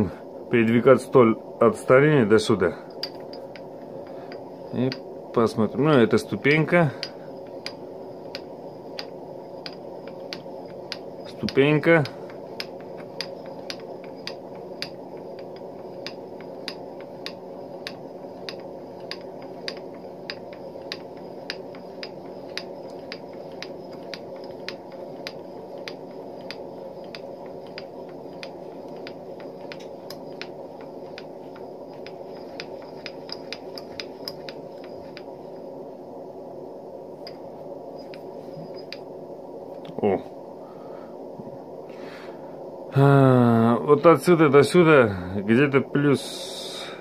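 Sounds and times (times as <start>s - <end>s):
milling machine hum: 0.0s - 47.0s.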